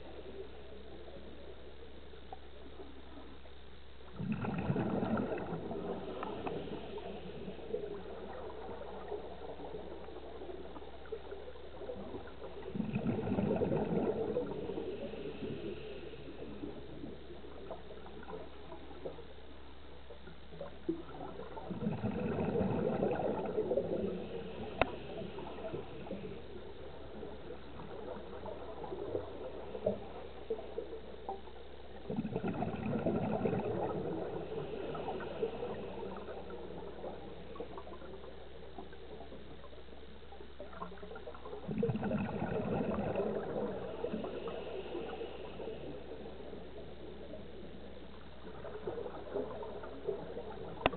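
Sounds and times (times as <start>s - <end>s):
scuba regulator exhaust bubbling: 0.0s - 50.9s
steady low hum: 0.0s - 50.9s.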